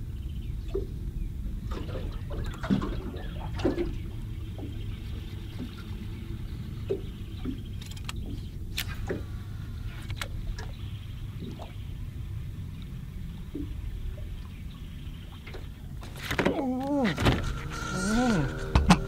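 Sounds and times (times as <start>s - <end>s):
boat low rumble: 0.0s - 19.0s.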